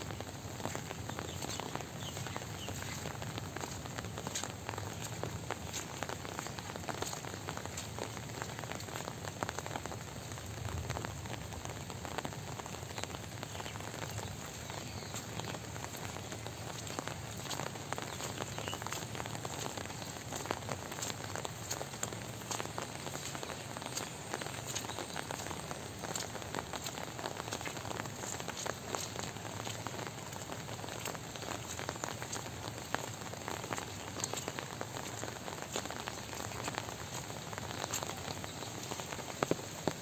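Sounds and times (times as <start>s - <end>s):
light rain: 0.0s - 40.0s.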